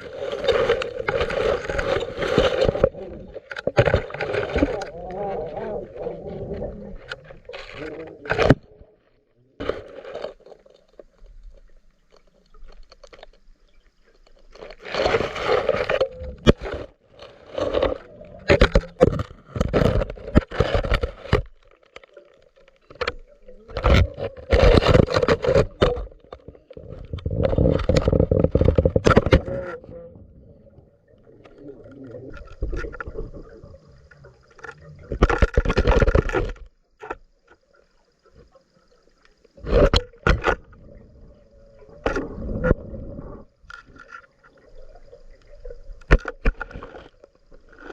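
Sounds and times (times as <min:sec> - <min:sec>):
underwater water rush: 0:00.0 - 0:47.9.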